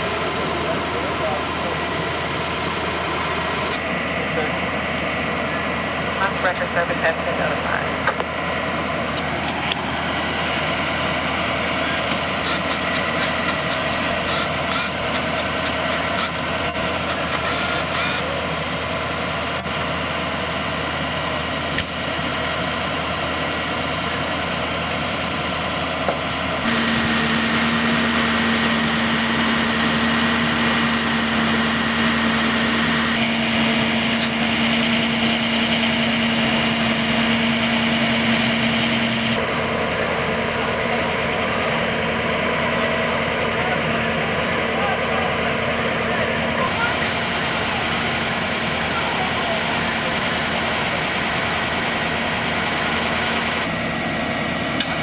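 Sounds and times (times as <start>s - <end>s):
engines idling: 0.0s - 55.0s
loud engine hum: 0.0s - 55.0s.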